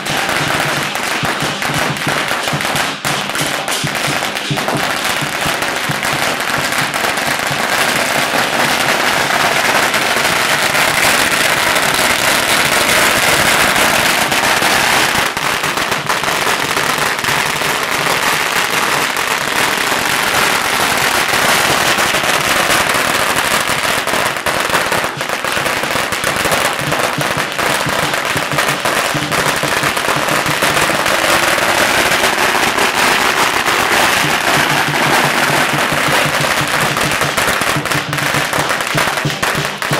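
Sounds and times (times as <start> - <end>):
firecrackers popping: 0.0 - 39.9.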